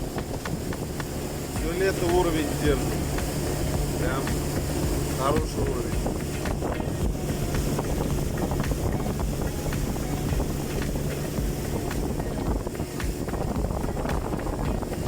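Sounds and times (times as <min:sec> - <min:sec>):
boat motor running: 0:00.0 - 0:15.0
wind buffeting microphone: 0:00.0 - 0:15.0.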